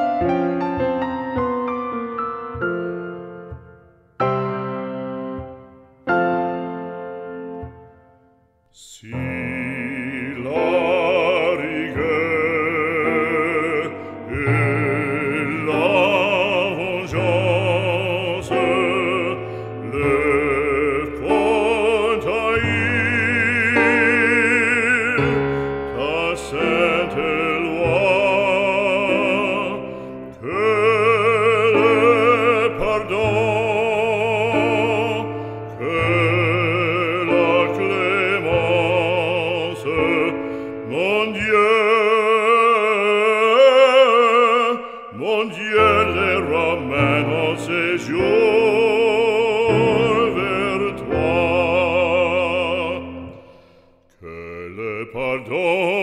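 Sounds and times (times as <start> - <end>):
operatic singing: 5.3 - 56.0.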